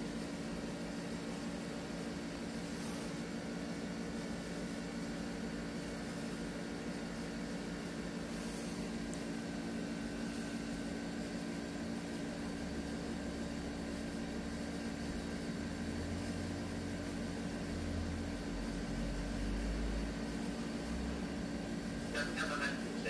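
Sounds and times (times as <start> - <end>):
machine hum with hiss: 0.0 - 23.0.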